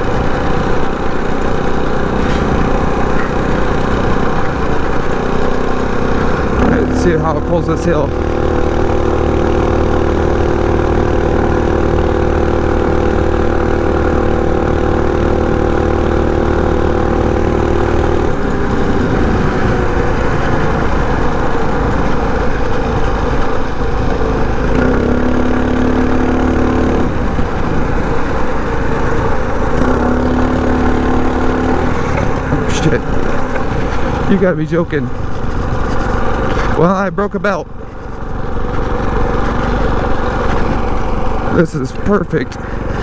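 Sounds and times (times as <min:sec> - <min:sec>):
minibike engine running under load: 0:00.0 - 0:43.0.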